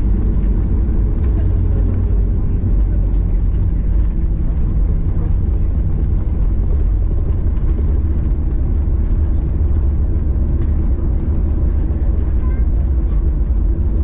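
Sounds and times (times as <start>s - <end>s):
airliner engines and airflow rumble: 0.0s - 14.0s.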